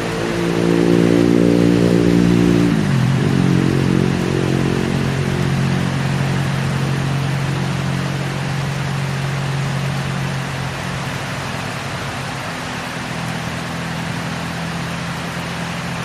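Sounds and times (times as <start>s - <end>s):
heavy rain: 0.0s - 16.0s
vehicle engine running: 0.0s - 16.0s.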